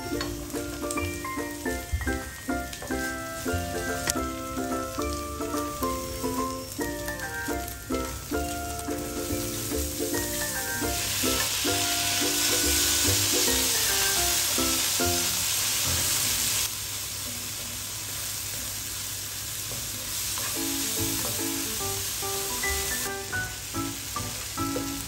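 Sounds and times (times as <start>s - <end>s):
food sizzling in frying pan: 0.0s - 25.0s.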